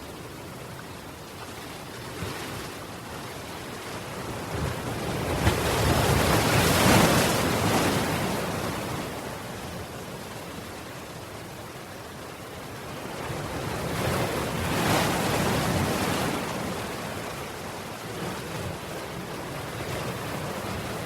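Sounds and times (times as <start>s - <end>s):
ocean waves surging onto shore: 0.0s - 21.0s.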